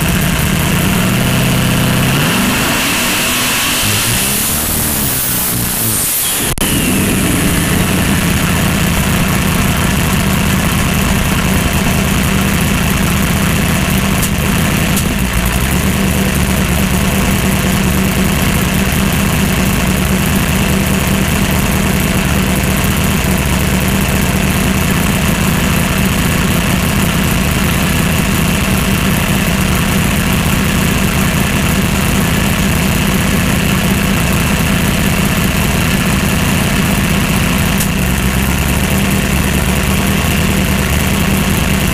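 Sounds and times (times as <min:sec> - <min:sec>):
race car engine idling: 0:00.0 - 0:41.9.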